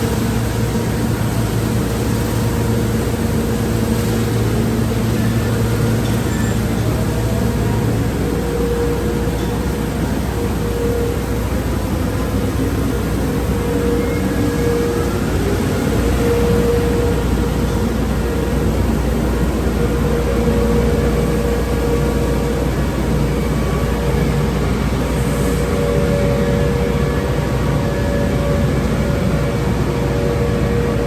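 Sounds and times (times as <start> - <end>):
loud steady rushing noise: 0.0 - 31.0.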